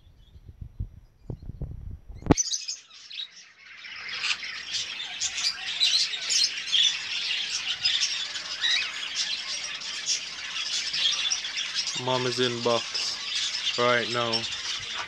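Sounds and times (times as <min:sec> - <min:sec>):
birds chirping and squawking: 0:02.2 - 0:15.0.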